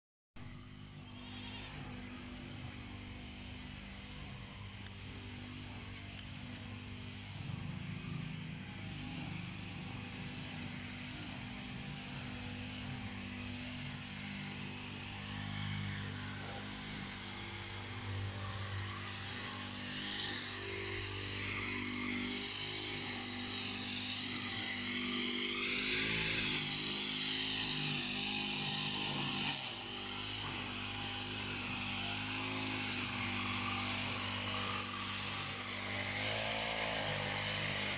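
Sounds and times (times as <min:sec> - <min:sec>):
petrol brush cutter cutting grass: 0:00.4 - 0:37.9.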